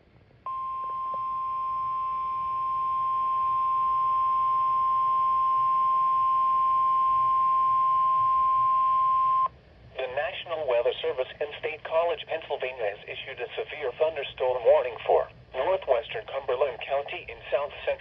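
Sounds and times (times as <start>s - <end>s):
faint radio hiss: 0.0s - 18.0s.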